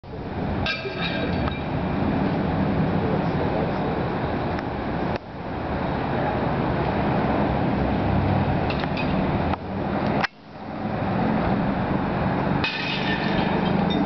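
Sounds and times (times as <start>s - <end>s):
distant city traffic: 0.0s - 14.0s.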